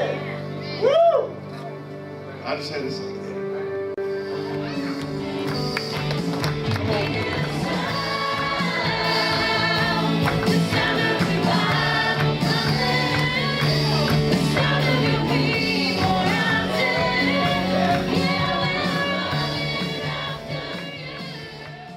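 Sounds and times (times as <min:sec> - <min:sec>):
worship music with singing: 0:03.5 - 0:21.9.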